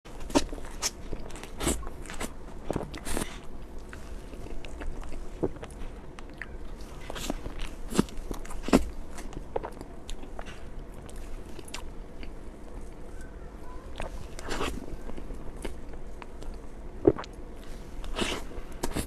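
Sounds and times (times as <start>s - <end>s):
biting and chewing cake: 0.1s - 19.0s.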